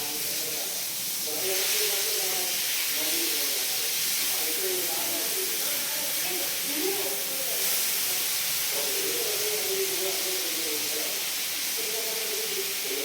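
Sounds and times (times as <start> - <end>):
faint voices: 0.0 - 13.0
fish sizzling in oil: 0.0 - 13.0.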